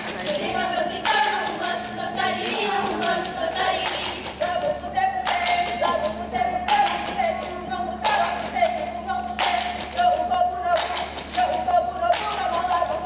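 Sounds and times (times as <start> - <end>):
rhythmic group clapping: 0.0 - 13.0.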